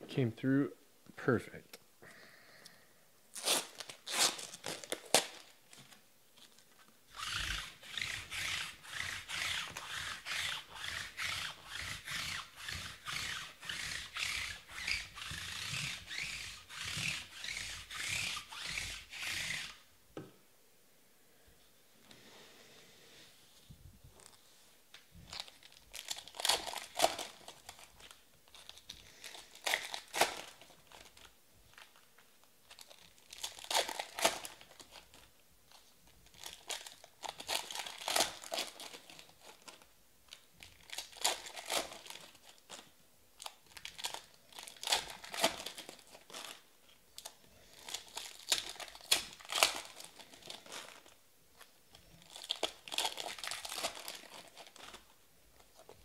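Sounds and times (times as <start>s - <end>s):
plastic wrappers crinkling and tearing: 3.3s - 19.8s, 25.2s - 56.0s.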